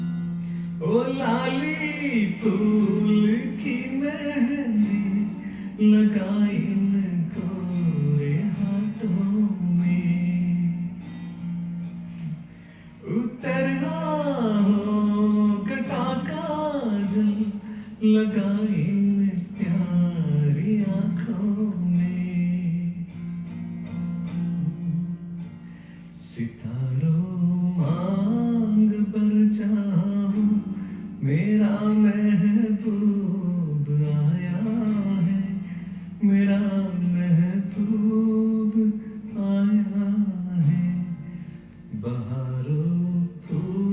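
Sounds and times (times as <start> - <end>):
man singing slow song: 0.0 - 25.5, 26.1 - 43.9
acoustic guitar: 0.0 - 43.9.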